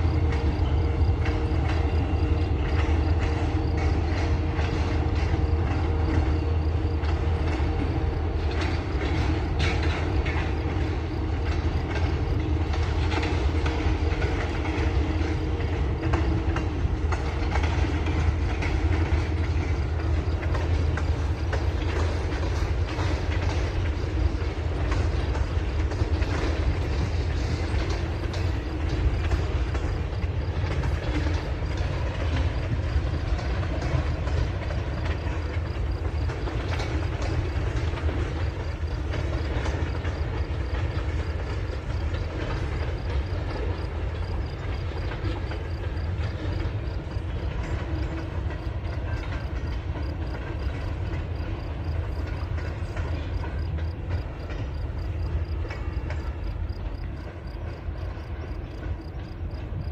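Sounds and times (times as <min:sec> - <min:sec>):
freight train rumbling past: 0:00.0 - 0:59.9
wheels clicking over rail joints: 0:00.0 - 0:59.9.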